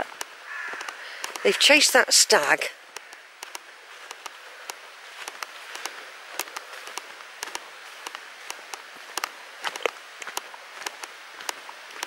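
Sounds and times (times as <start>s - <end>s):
footsteps on dry leaves: 0.0s - 2.4s, 3.0s - 12.0s.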